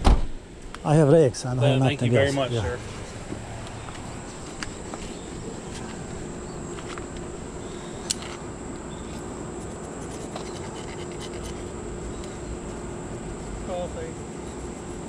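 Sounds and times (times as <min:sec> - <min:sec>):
steady low hum: 0:00.0 - 0:15.0
high insect buzz: 0:02.4 - 0:15.0.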